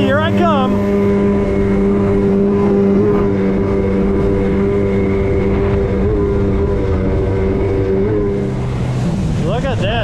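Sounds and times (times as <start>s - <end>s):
jet ski engine running: 0.0s - 10.0s
wind and water rush: 0.0s - 10.0s.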